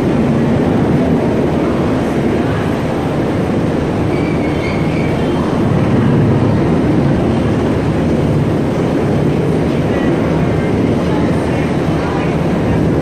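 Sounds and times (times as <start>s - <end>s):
helicopter rotor hovering overhead: 0.0s - 13.0s.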